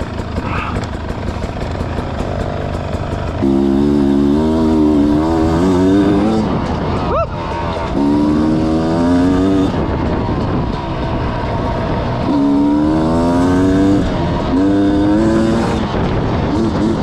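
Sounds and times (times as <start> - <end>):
dirt bike engine revving: 0.0 - 17.0
wind noise: 3.0 - 17.0.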